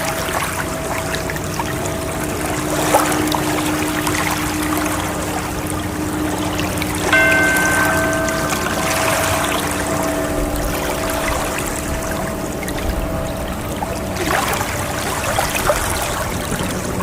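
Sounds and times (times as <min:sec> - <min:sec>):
soft sustained tones: 0:00.0 - 0:17.0
higher chord of tones: 0:00.6 - 0:17.0
ocean waves rushing: 0:02.3 - 0:16.7.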